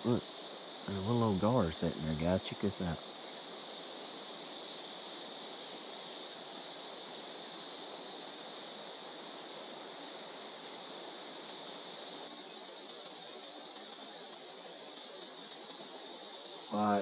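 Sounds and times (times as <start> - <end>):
cicadas chorus drone: 0.0 - 17.0
faint even hiss: 0.0 - 17.0.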